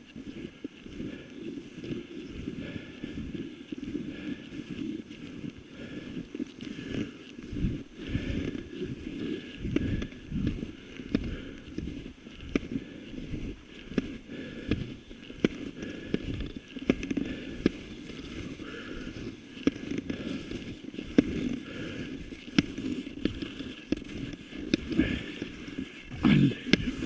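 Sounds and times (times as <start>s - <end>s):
sharp ski clicks: 0.0s - 27.0s
skis sliding on snow: 0.0s - 27.0s.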